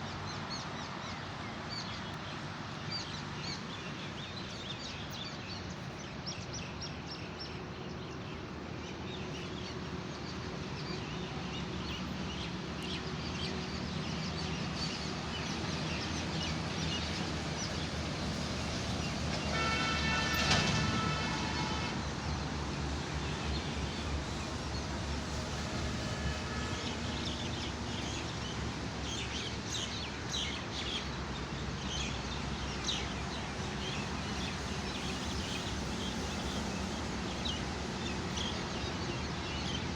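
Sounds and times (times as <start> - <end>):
background traffic hum: 0.0 - 39.9.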